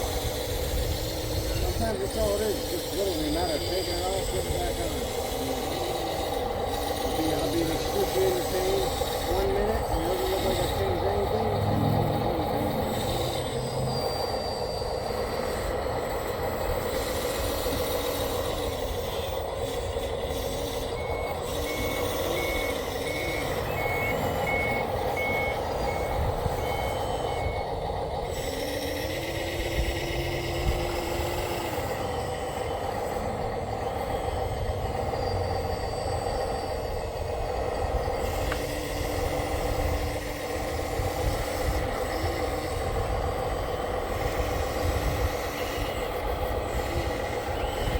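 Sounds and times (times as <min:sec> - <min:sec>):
machinery humming: 0:00.0 - 0:47.9
reversing alarm beeping: 0:00.0 - 0:47.9.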